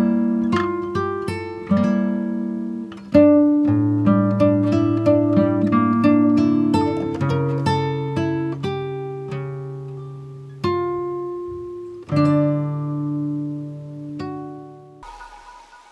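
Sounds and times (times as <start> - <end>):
acoustic guitar plucking: 0.0 - 15.9.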